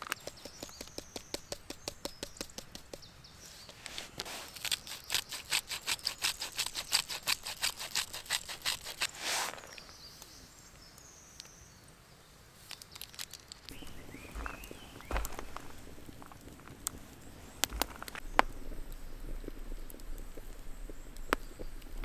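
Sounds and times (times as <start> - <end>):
scratchy strokes: 0.0 - 10.0, 13.7 - 22.0.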